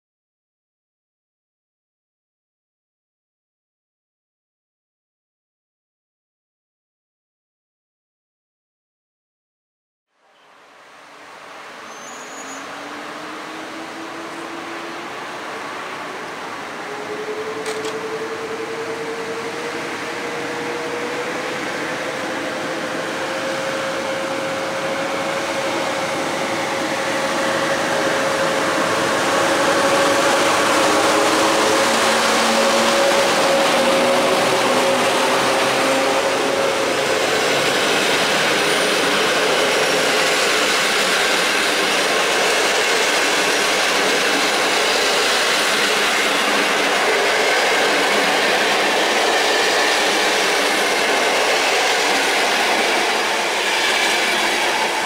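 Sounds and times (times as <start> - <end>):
electric locomotive whine: 10.5 - 55.0.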